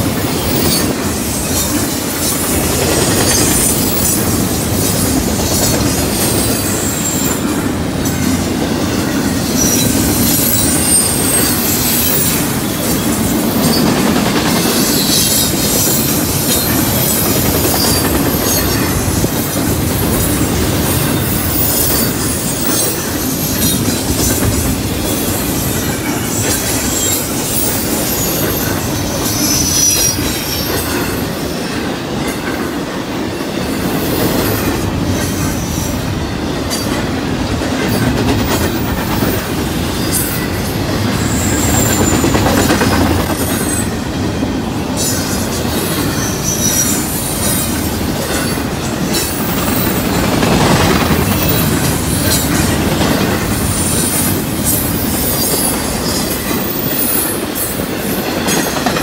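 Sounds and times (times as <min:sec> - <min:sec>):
rumble of steel wheels on rail: 0:00.0 - 0:59.0.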